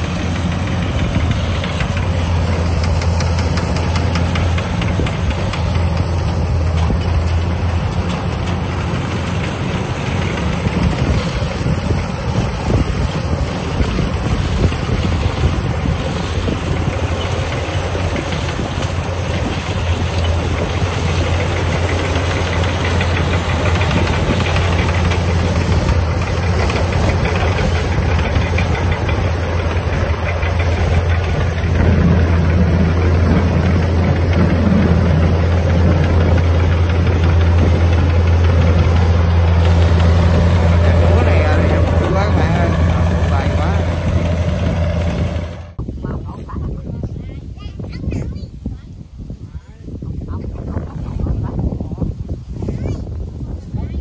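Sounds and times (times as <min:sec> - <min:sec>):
mechanical threshing noise: 0:00.0 - 0:45.8
combine harvester engine running: 0:00.0 - 0:48.0.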